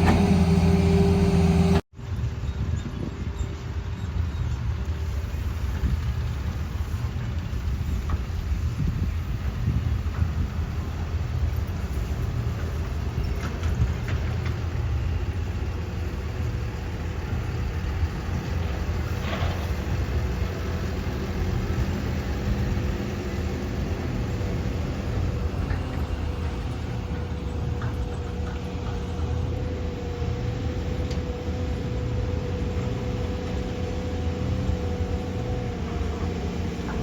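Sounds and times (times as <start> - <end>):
diesel engine rumble: 0.0 - 1.9, 4.6 - 37.0.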